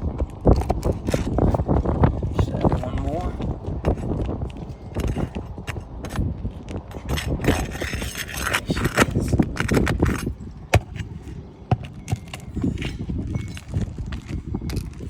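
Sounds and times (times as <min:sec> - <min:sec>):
scraping and knocking on shingles: 0:00.4 - 0:15.0.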